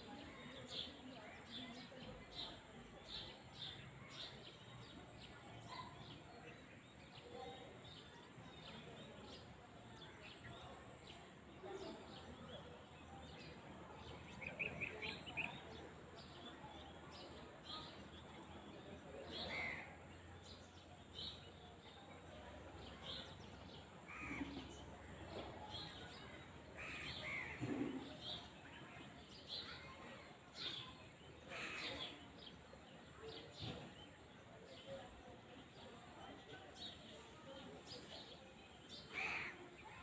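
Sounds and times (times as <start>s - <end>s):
low background noise: 0.0s - 40.0s.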